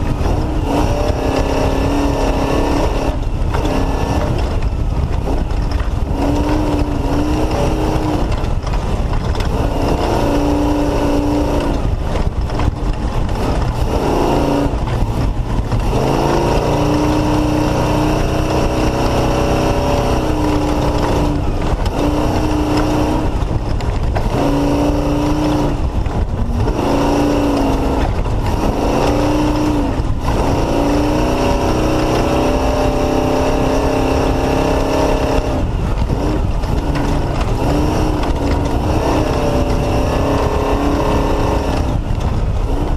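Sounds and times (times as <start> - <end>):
loud rushing noise: 0.0 - 42.9
race car engine revving: 0.0 - 42.9.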